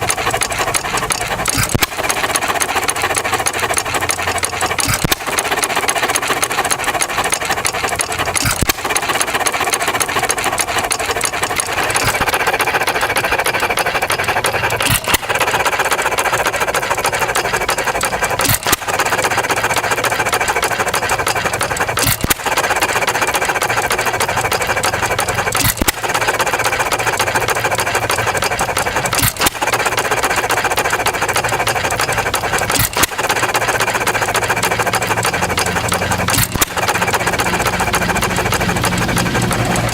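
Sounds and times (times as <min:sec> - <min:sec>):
flywheel engine running: 0:00.0 - 0:39.9.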